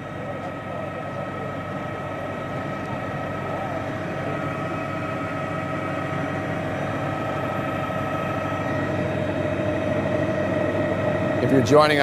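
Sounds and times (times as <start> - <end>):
helicopter rushing noise: 0.0 - 12.0
helicopter whine: 0.0 - 12.0.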